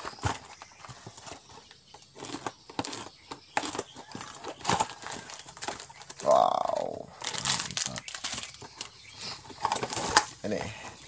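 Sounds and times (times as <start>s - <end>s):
plastic packaging crinkling: 0.0s - 9.0s, 9.6s - 10.6s.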